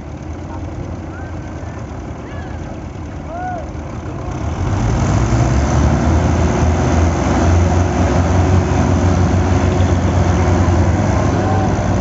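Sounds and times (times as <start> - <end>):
tractor diesel engines straining: 0.0 - 12.0.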